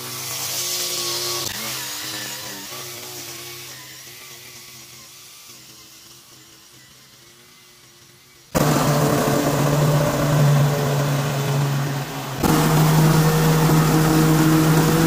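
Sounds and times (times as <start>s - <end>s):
loud engine: 0.0s - 15.0s
string trimmer running: 0.0s - 15.0s.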